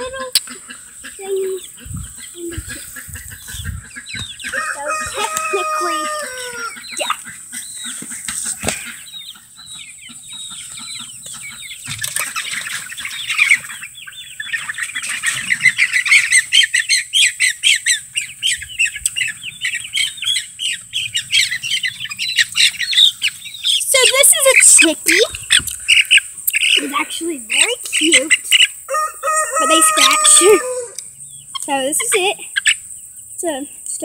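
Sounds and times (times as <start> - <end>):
baby chicks peeping: 0.0 - 34.0.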